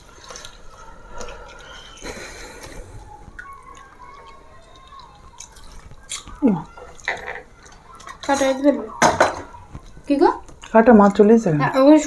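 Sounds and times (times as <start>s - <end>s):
wet squelchy eating: 0.0s - 11.2s.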